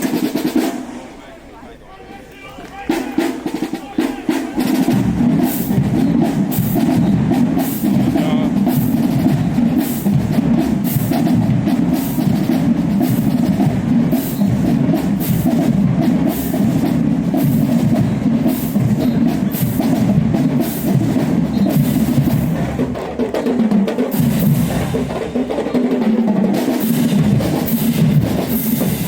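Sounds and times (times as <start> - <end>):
drumline drum and cymbal hits: 0.0 - 1.4, 2.7 - 29.0
marching band brass: 0.0 - 29.0.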